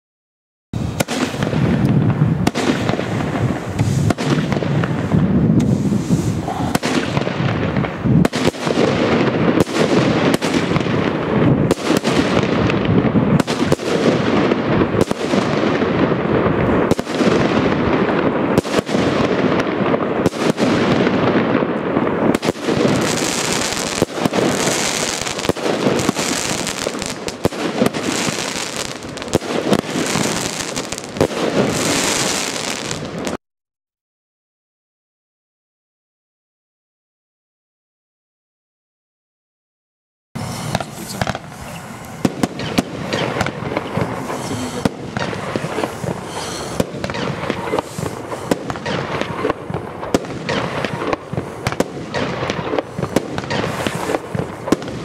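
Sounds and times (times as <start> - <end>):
crackling fireworks hiss: 0.8 - 33.4, 40.4 - 55.0
fireworks launching and bursting: 0.8 - 33.4, 40.4 - 55.0.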